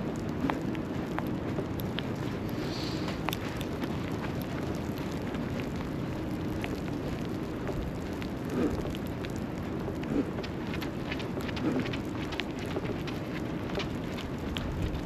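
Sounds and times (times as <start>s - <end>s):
constant rushing street noise: 0.0s - 15.0s
low bumps: 0.0s - 15.0s.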